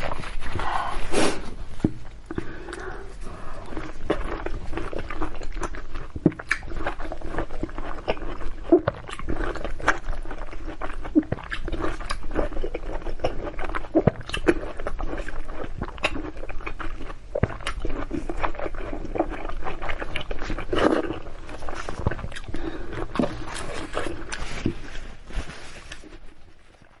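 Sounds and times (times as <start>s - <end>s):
biting and chewing: 1.8s - 27.0s.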